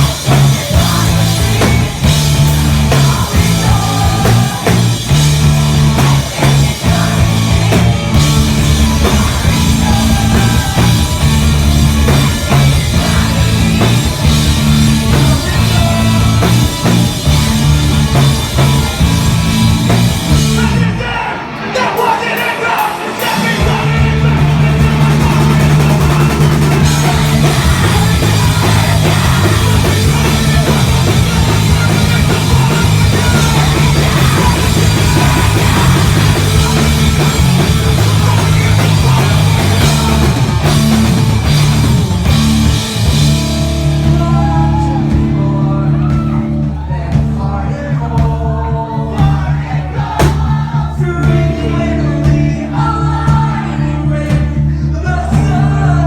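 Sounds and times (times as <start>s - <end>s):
held bass notes: 0.0s - 21.2s, 23.4s - 56.0s
live rock music: 0.0s - 56.0s.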